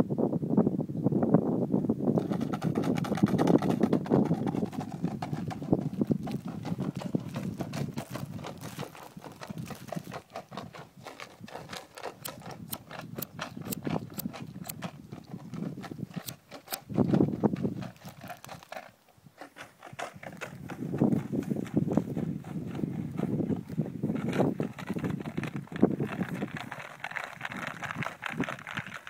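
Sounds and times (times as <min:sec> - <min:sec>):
horse hooves clip-clopping: 0:02.2 - 0:29.0.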